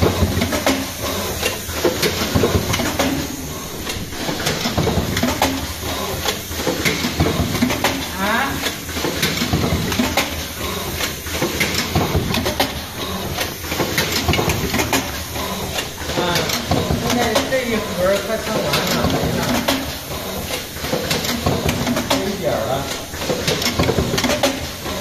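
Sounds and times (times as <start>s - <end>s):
machine metallic clicking and clattering: 0.0s - 25.0s
steady machine noise: 0.0s - 25.0s.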